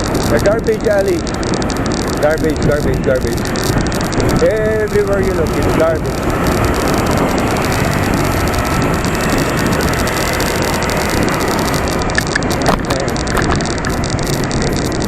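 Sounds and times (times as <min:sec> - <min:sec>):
bicycle road noise: 0:00.0 - 0:15.0
traffic: 0:00.0 - 0:15.0
wind rush: 0:00.0 - 0:15.0.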